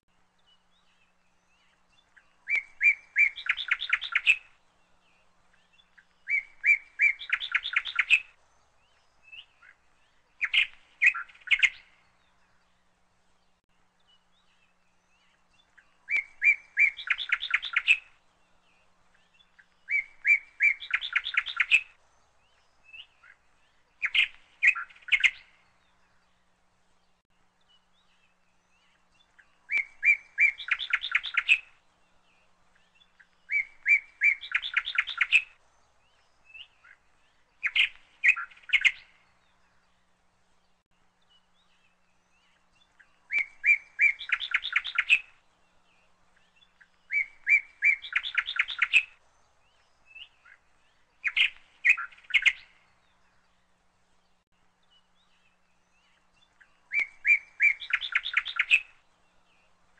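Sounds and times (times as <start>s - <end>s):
songbird singing trills: 0.1s - 59.9s.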